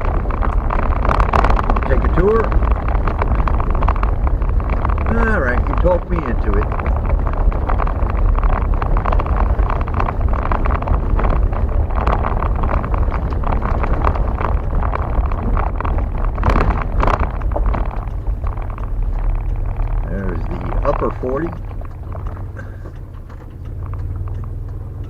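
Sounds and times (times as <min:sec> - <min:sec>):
rattling: 0:00.0 - 0:25.0
vehicle engine and tyre rumble: 0:00.0 - 0:25.0.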